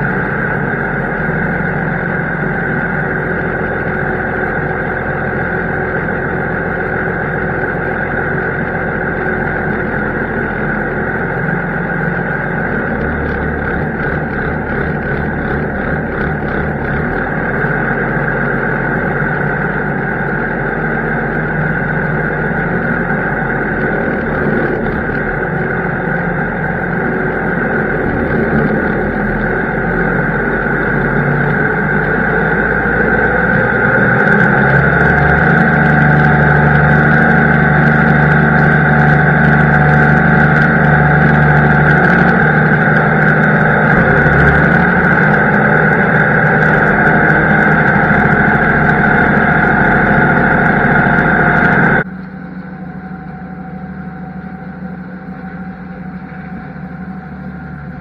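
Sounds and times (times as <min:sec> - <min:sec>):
steady high whine: 0:00.0 - 0:58.0
tractor engine drone: 0:00.0 - 0:58.0.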